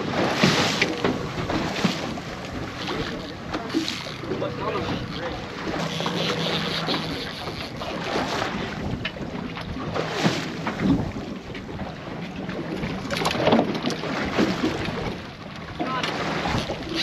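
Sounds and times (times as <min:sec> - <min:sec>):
wind buffeting microphone: 0:00.0 - 0:15.4
boat motor running: 0:00.0 - 0:17.0
sea: 0:00.0 - 0:17.0.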